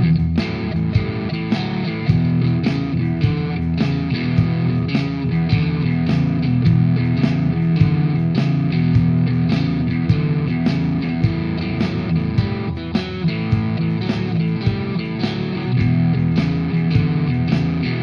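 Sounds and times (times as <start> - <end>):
blues guitar: 0.0 - 18.0.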